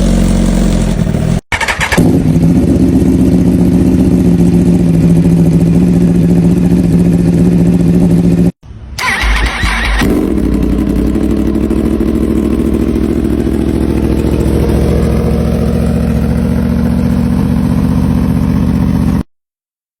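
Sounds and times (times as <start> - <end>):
motorcycle engine idling: 0.0 - 19.2
motorcycle engine running: 0.0 - 19.3.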